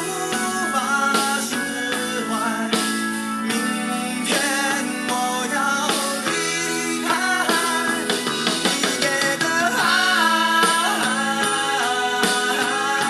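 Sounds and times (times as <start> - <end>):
guitar accompaniment: 0.0 - 13.0
man singing: 0.0 - 13.0.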